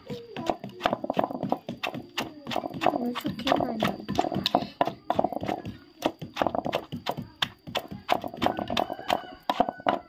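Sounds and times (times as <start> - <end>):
pestle pounding in mortar: 0.0 - 10.0.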